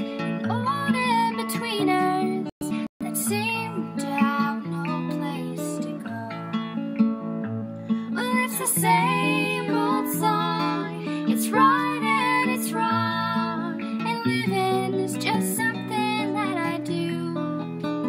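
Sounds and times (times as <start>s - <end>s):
acoustic guitar picking: 0.0s - 18.0s.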